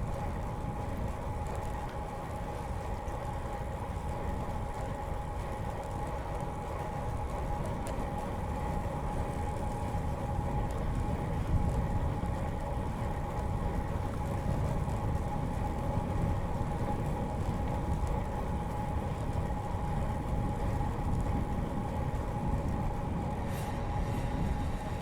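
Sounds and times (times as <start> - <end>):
constant hum: 0.0 - 25.0
wind and tyre rumble: 0.0 - 25.0.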